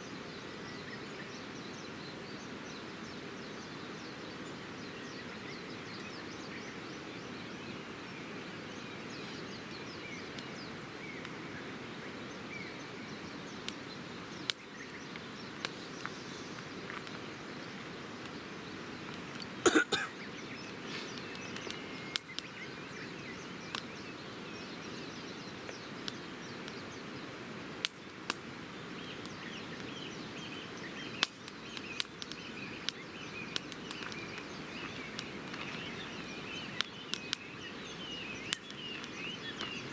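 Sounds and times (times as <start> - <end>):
background hiss: 0.0 - 39.9
faint birds chirping: 0.0 - 39.9
campfire crackling and popping: 7.8 - 39.9.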